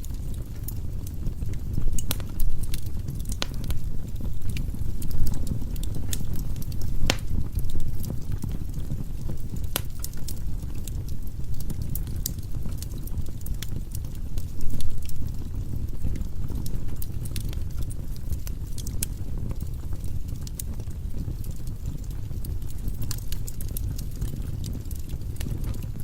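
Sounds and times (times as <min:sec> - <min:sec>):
firewood crackling and popping: 0:00.0 - 0:26.0
low rumble of fire: 0:00.0 - 0:26.0.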